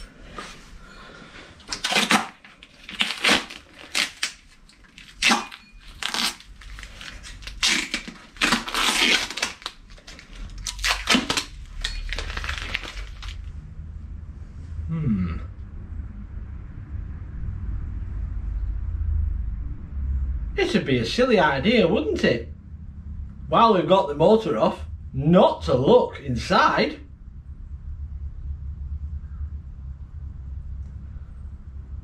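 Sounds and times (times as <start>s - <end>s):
low rumble: 2.5s - 32.0s.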